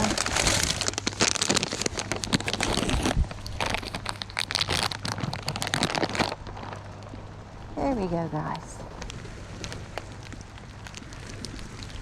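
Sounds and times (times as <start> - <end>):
plastic bag crinkling: 0.0 - 7.2, 8.9 - 12.0
steady low hum: 0.0 - 12.0.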